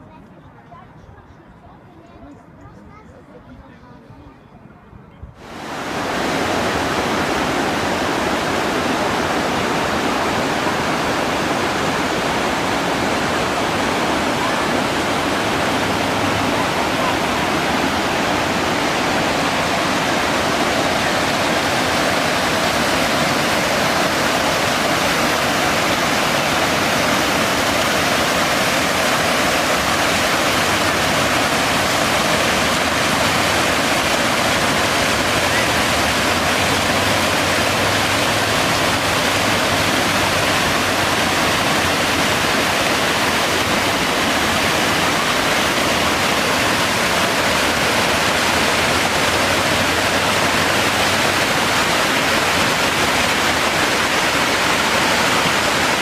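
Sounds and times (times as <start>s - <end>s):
rushing water: 5.4s - 56.0s.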